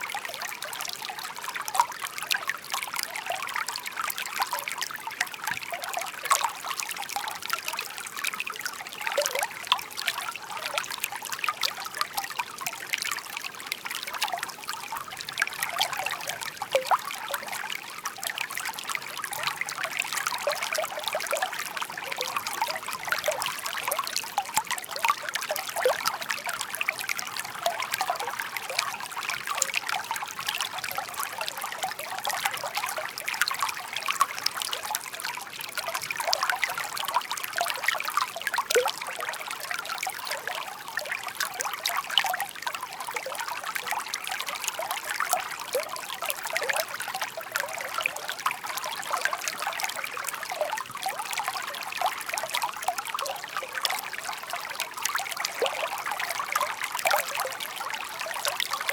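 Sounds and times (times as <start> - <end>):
stream burbling over stones: 0.0 - 58.9.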